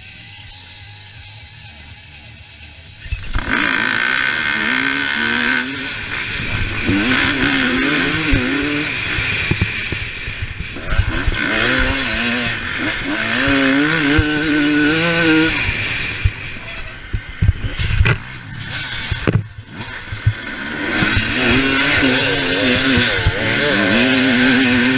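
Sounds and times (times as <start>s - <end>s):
dirt bike engine revving: 3.1s - 24.9s.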